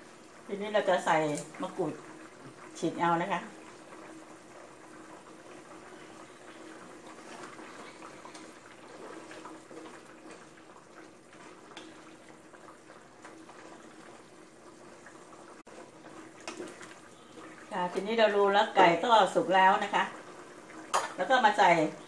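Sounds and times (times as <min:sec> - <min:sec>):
curry bubbling in a pot: 0:00.0 - 0:22.0
wooden spatula stirring: 0:01.2 - 0:20.9.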